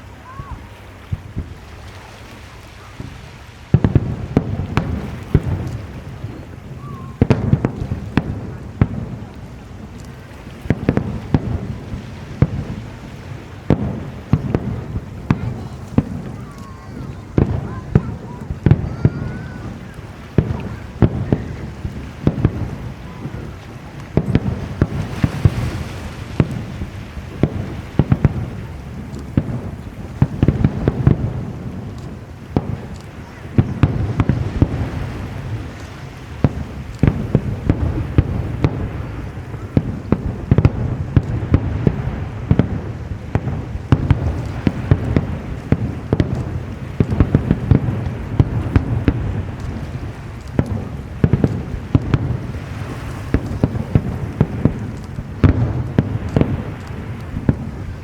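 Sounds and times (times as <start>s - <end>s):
fireworks bangs: 0.0s - 58.0s
fireworks rumble and crackle: 0.0s - 58.0s.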